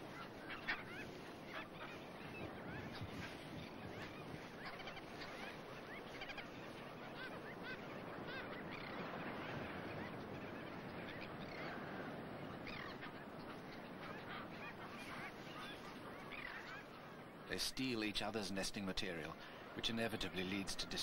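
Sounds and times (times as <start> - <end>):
colony of birds calling: 0.0 - 21.0.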